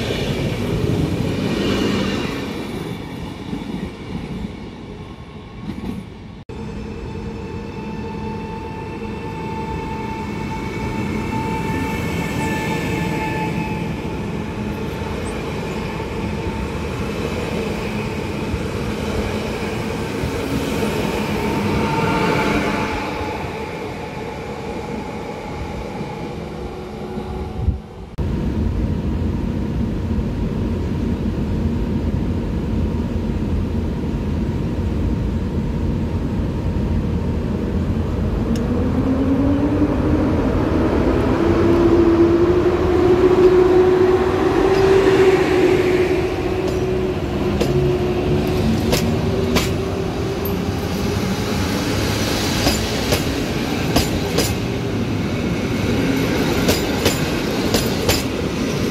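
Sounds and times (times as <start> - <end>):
electric train whine: 0.0 - 58.9
train rumble: 0.0 - 58.9.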